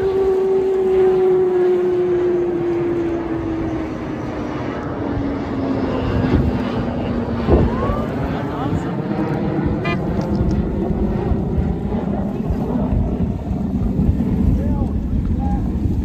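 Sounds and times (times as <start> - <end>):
jet fighter passing overhead: 0.0 - 16.0.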